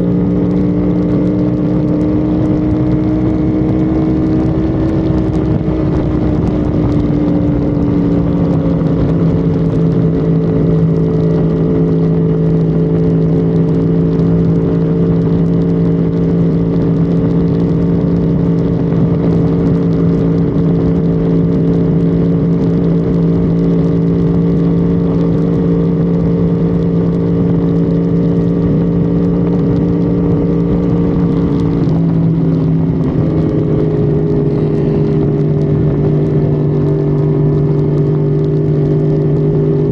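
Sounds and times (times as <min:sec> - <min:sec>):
car engine at high revs: 0:00.0 - 0:39.9
road and wind noise: 0:00.0 - 0:39.9.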